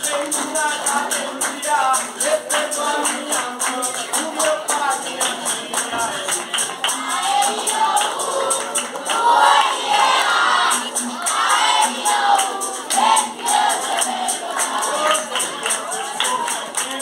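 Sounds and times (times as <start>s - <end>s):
man singing: 0.0s - 9.0s, 12.0s - 17.0s
berimbau struck in a steady rhythm: 0.0s - 17.0s
hand-clapping: 0.0s - 17.0s.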